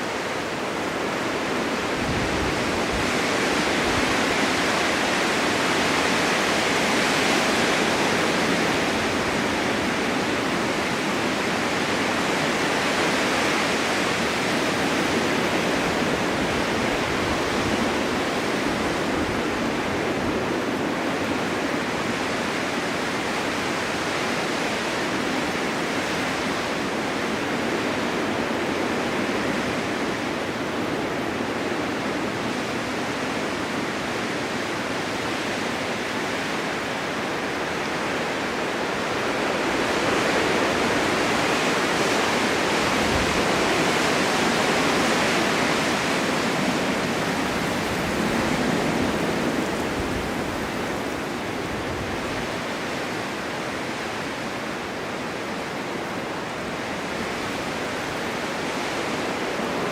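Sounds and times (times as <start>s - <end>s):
blizzard wind rushing: 0.1s - 59.9s.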